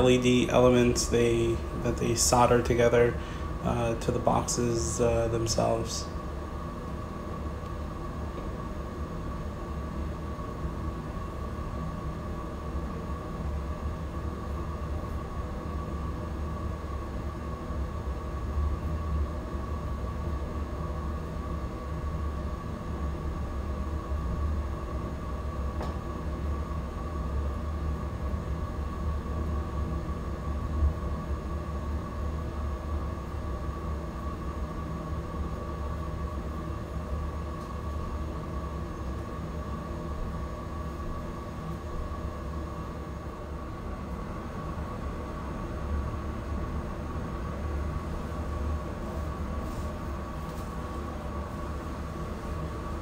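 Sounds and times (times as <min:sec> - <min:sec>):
low mechanical rumble: 0:00.0 - 0:53.0
mid-pitched hum: 0:00.0 - 0:53.0.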